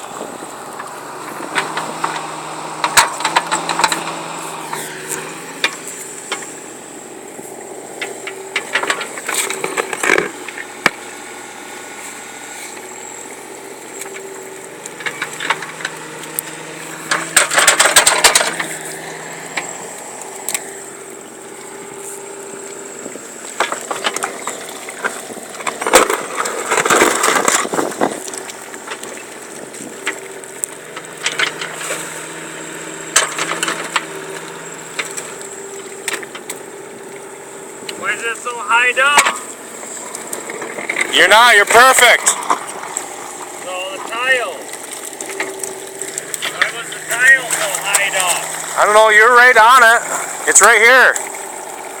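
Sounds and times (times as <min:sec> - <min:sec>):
bucket scraping soil and stones: 0:00.0 - 0:36.4, 0:38.0 - 0:52.0
excavator engine running: 0:00.0 - 0:52.0.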